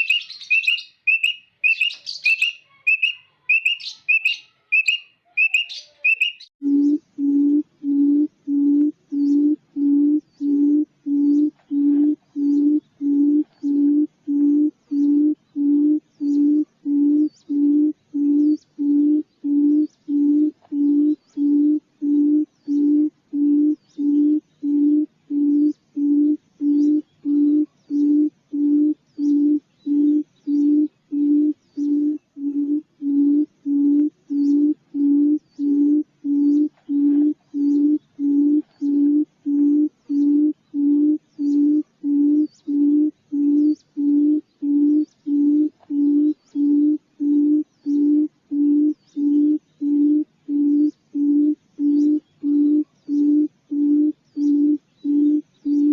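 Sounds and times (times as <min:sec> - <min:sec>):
faint high chirps: 0:00.0 - 0:55.9
quail hooting: 0:00.0 - 0:55.9.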